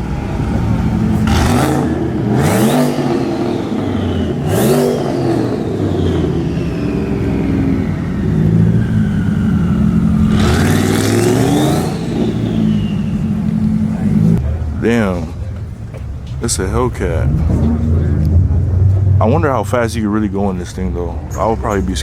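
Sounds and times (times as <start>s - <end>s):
car engine idling and revving: 0.0s - 22.0s
high engine whine: 0.0s - 22.0s.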